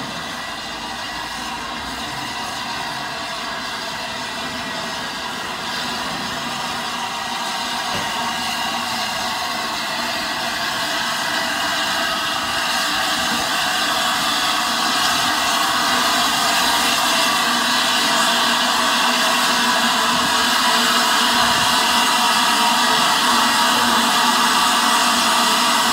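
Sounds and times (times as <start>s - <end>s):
steam locomotive hissing steam: 0.0s - 25.9s.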